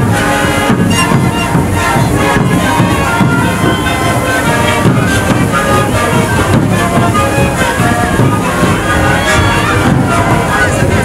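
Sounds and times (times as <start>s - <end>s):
bass drums beating: 0.0s - 11.0s
panpipes playing chords: 0.0s - 11.0s.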